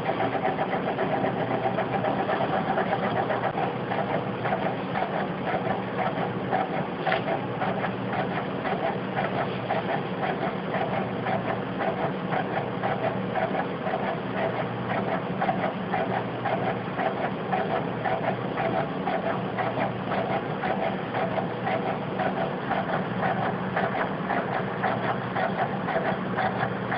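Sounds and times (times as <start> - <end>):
rapid mechanical clatter: 0.0 - 26.9.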